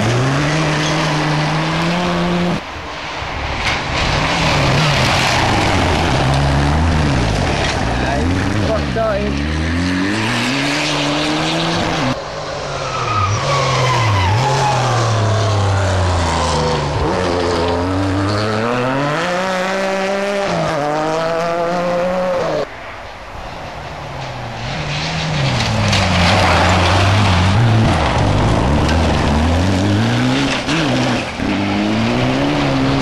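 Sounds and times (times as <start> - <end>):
rally car engines revving: 0.0 - 22.7, 24.2 - 33.0.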